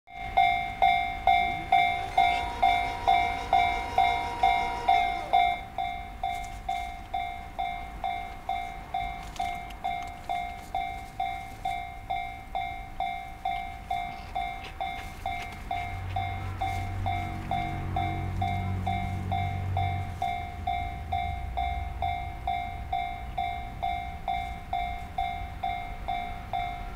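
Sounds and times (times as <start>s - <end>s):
high tone: 0.1s - 26.9s
level crossing warning bell ringing: 0.1s - 26.9s
low rumble of approaching train: 0.1s - 26.9s.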